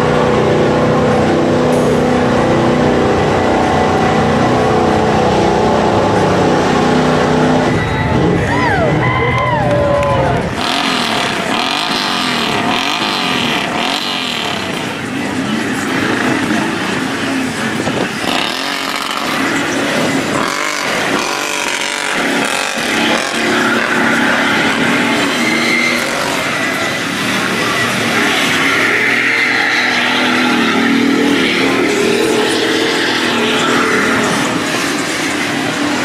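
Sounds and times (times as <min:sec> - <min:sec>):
pickup engine revving: 0:00.0 - 0:08.9, 0:10.3 - 0:36.0
tires churning through mud: 0:00.0 - 0:36.0.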